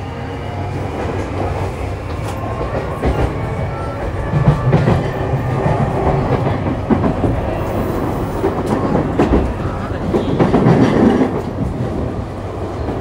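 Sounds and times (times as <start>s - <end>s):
electric train rumble with whine: 0.0s - 13.0s.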